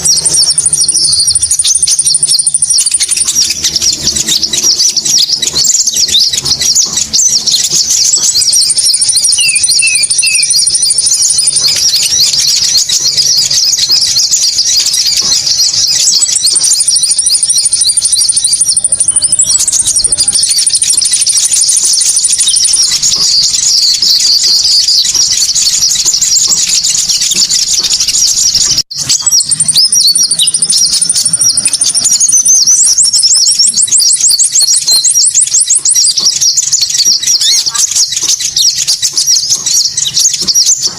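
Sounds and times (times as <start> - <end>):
birds twittering and chirping: 0.0 - 40.9
thin high bird trills: 0.0 - 40.9.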